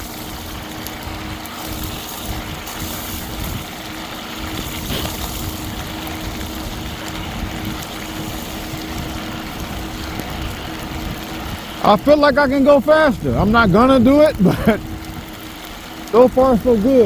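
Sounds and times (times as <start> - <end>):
electric motor whine: 0.0 - 17.0
wind and tyre noise: 0.0 - 17.0.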